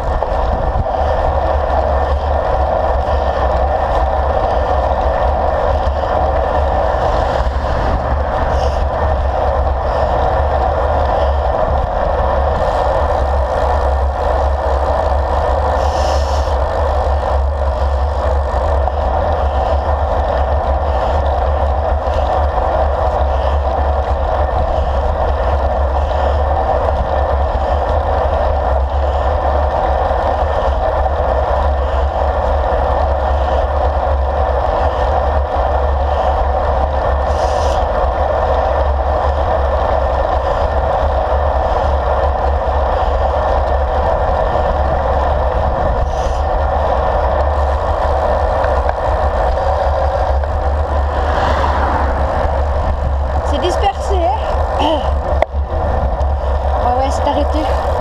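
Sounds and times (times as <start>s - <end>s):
bicycle road rumble: 0.0s - 58.0s
wind rush on microphone: 0.0s - 58.0s.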